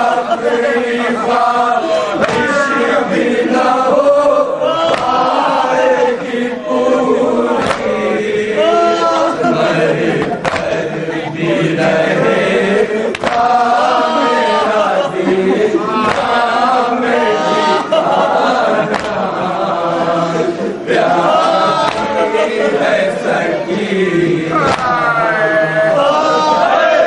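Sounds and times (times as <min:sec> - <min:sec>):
men chanting a lament: 0:00.0 - 0:27.0.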